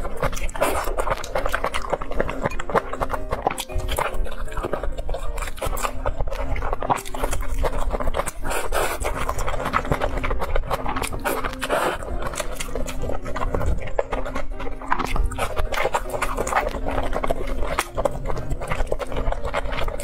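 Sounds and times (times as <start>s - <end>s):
slurping noodles: 0.0s - 20.0s
wet chewing: 0.0s - 20.0s.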